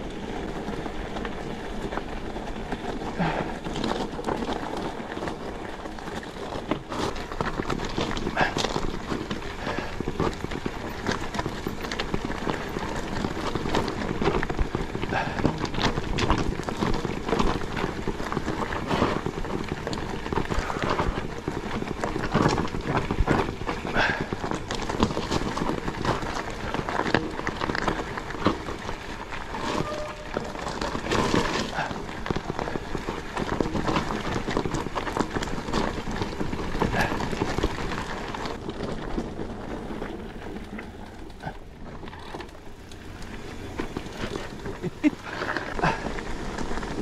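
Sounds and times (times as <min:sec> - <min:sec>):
bike rattling: 0:00.0 - 0:47.0
bike tyres on dirt and stones: 0:00.0 - 0:47.0.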